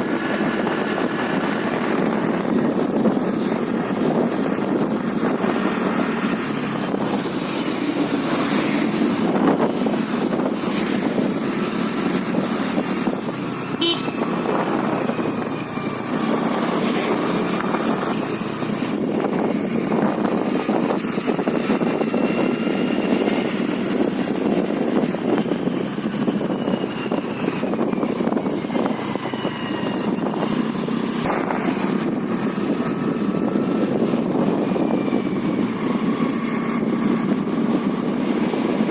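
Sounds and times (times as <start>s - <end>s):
road noise: 0.0s - 38.9s
scooter engine running: 0.0s - 38.9s.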